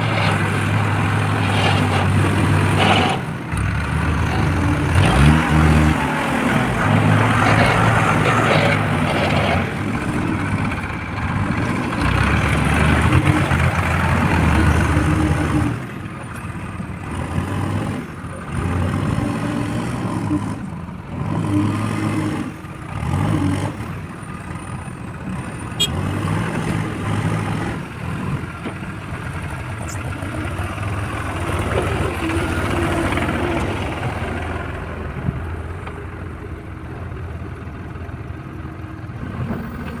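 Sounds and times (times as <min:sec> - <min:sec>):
diesel engine revving: 0:00.0 - 0:36.7.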